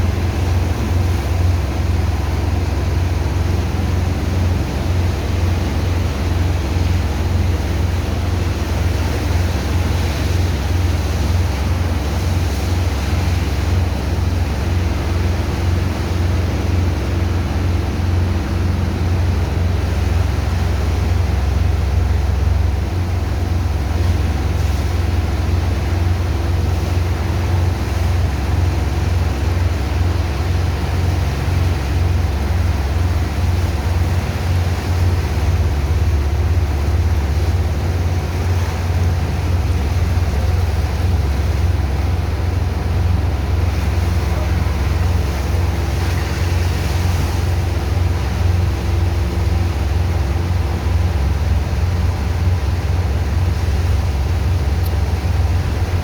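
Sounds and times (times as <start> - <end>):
pump engine droning: 0.0 - 56.0.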